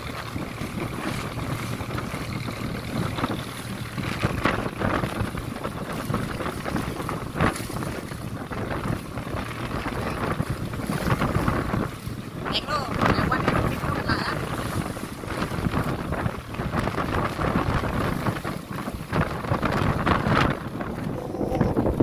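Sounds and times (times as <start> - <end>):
motorboat engine drone: 0.0 - 22.0
waves slapping hull: 0.0 - 22.0
wind buffeting microphone: 0.0 - 22.0.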